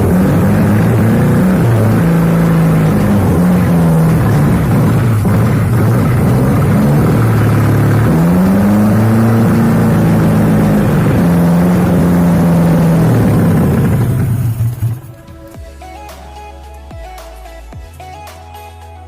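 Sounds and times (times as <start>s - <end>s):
car engine accelerating: 0.0s - 16.1s.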